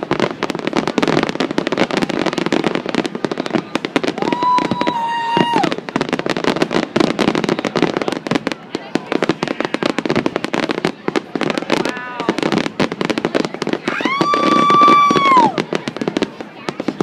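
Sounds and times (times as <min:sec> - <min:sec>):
fireworks bangs and crackle: 0:00.0 - 0:17.0.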